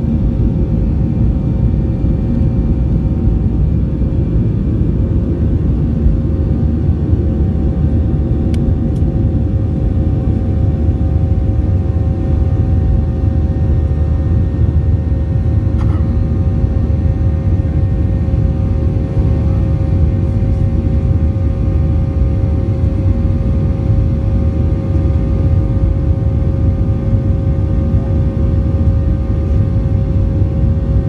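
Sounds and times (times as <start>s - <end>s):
jet engines rumbling with whine: 0.0s - 31.0s.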